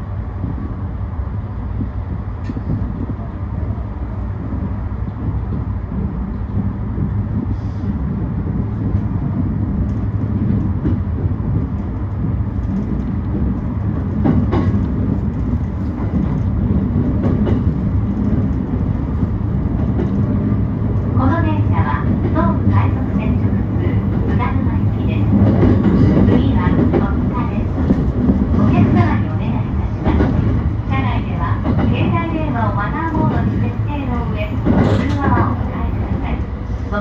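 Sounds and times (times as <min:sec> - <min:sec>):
train interior low rumble: 0:00.0 - 0:37.0.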